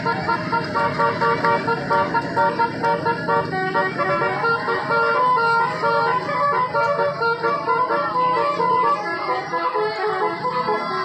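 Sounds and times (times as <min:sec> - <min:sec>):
horns playing a quick tune: 0:00.0 - 0:11.0
train engine running: 0:00.0 - 0:11.0.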